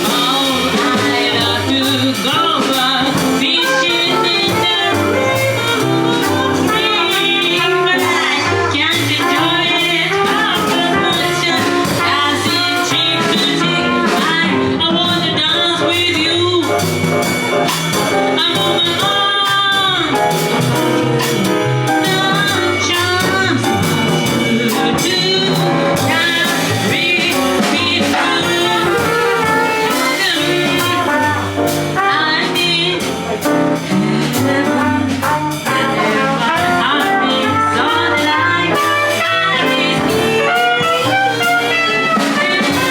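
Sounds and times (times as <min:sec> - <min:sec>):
horn melody: 0:00.0 - 0:42.9
jazz band playing: 0:00.0 - 0:42.9.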